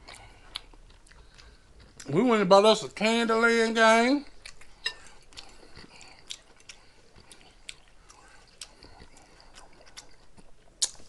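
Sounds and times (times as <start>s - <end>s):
person chewing food: 0.0s - 2.3s, 4.2s - 11.0s.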